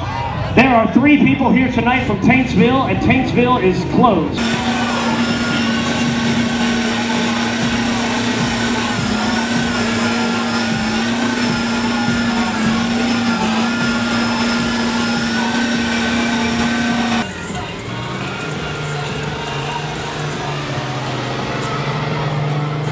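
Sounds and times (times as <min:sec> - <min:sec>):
engine high-pitched steady note: 0:04.4 - 0:22.9.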